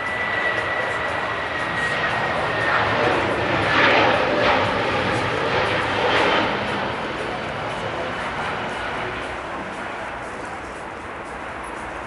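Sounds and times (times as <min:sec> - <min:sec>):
jet engines at takeoff: 0:00.0 - 0:12.0.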